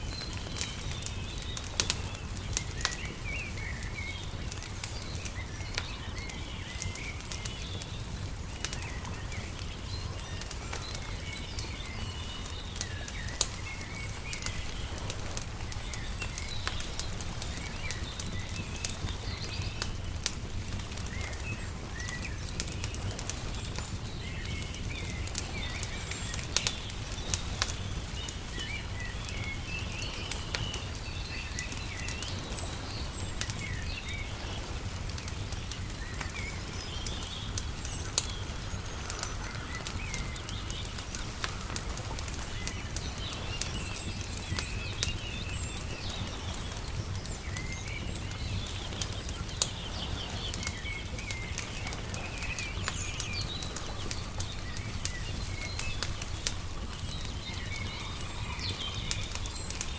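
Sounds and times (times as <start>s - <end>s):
small birds chirping: 0.0s - 59.9s
wood fire crackling: 0.0s - 59.9s.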